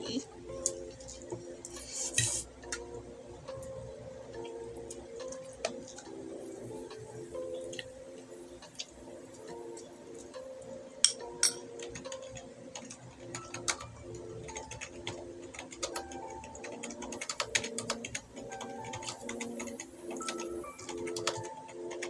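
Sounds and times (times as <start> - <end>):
quiet background music: 0.0 - 22.0.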